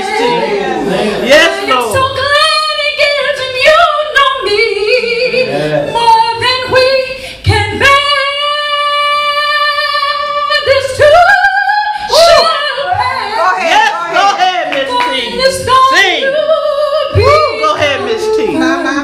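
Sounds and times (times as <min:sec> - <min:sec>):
woman singing gospel: 0:00.0 - 0:19.0.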